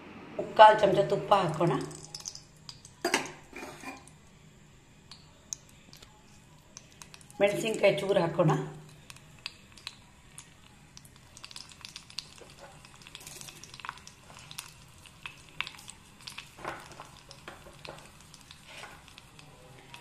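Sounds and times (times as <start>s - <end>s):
chilli frying in hot ghee: 0.4s - 4.2s, 5.0s - 20.0s.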